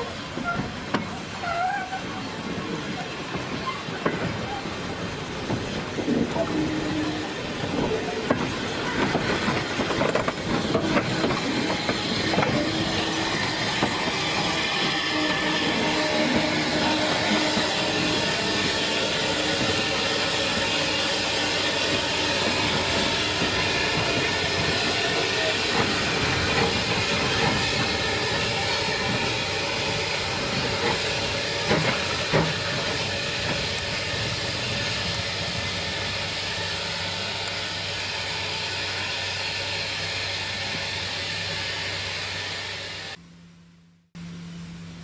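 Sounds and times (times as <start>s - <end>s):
train running with hiss: 0.0s - 43.2s.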